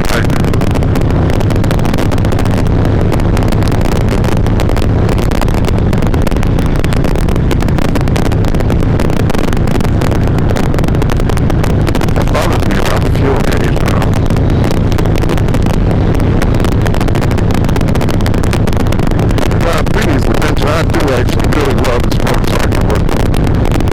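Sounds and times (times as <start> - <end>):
motorcycle engine rumble: 0.0 - 23.9
wind rushing over helmet: 0.0 - 23.9.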